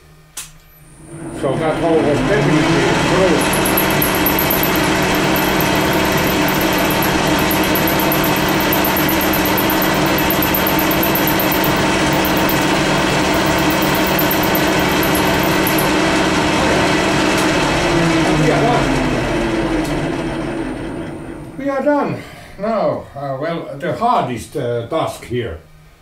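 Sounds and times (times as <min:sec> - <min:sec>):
milling spindle motor hum and whine: 0:00.8 - 0:22.0.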